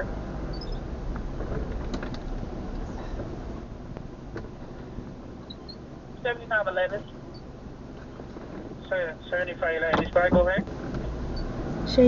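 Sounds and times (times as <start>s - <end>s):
truck engine rumble in cab: 0.0s - 12.0s.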